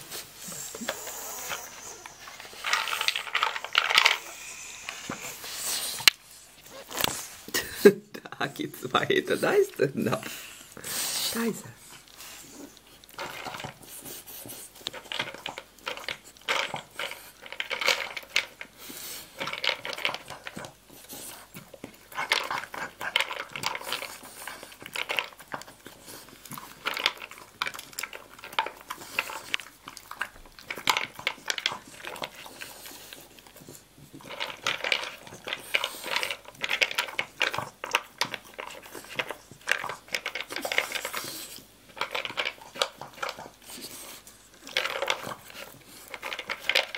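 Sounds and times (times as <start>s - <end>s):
kibble rattling in plastic bowl: 0.5s - 6.0s, 12.8s - 46.9s.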